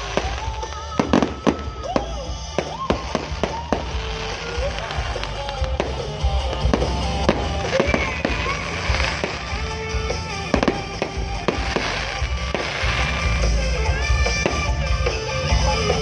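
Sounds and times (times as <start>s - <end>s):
fireworks bangs and crackles: 0.0s - 16.0s
music with heavy bass: 0.0s - 16.0s.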